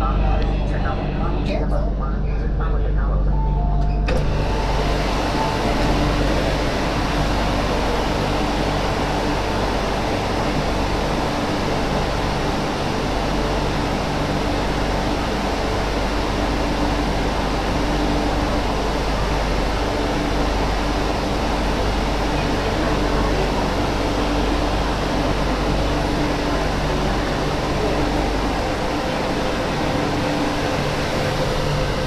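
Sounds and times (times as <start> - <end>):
constant low tones: 0.0 - 32.0
train cabin hum and hiss: 0.0 - 32.0.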